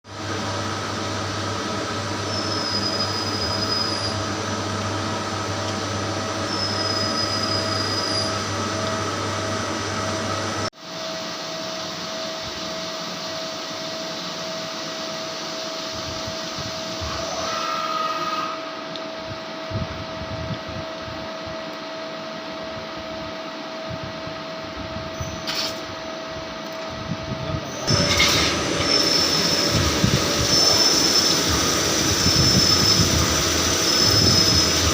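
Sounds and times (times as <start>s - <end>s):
machine whine over low hum: 0.1s - 34.9s.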